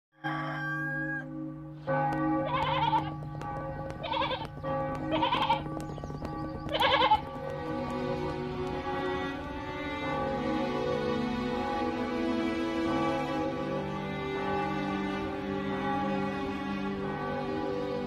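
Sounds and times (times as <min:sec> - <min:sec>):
background music with sustained tones: 0:00.2 - 0:18.0.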